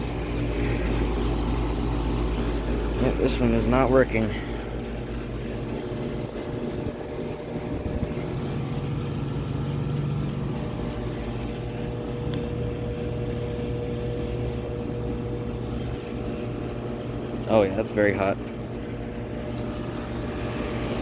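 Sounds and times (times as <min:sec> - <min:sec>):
air conditioner units running: 0:00.0 - 0:21.0
electrical buzzing: 0:00.0 - 0:21.0.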